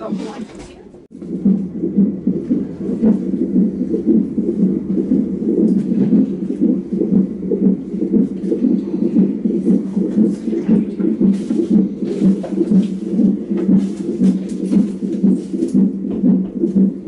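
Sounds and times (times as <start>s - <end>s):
doppler fetal heartbeat whoosh: 1.0s - 17.0s.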